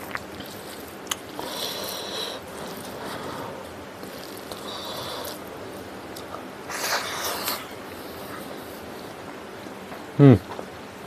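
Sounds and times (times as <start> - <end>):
noisy mouth sound: 0.0 - 9.1
chewing rice: 0.0 - 9.8.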